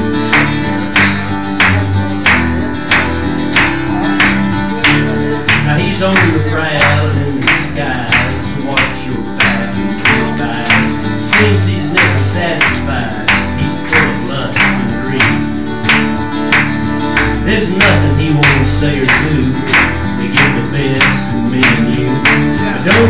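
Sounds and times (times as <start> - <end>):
acoustic guitar strumming: 0.0 - 23.0
electric guitar: 0.0 - 23.0
low bass notes: 0.0 - 23.0.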